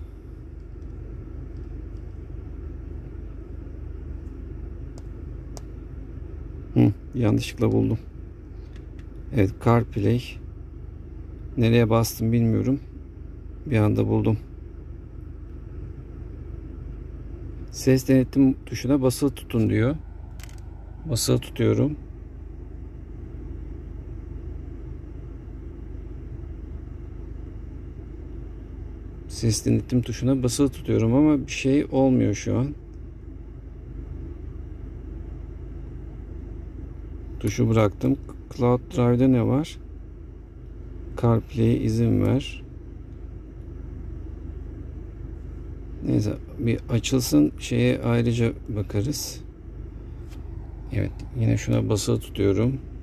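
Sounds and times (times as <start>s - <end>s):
low rumble inside car cabin: 0.0s - 53.0s.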